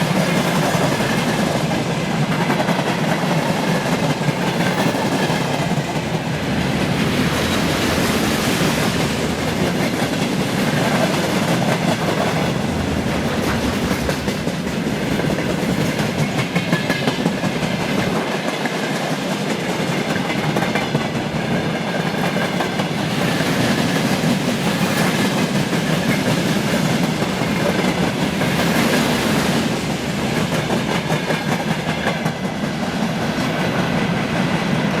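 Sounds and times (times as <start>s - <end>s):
freight wagon wheels clicking on rails: 0.0s - 35.0s.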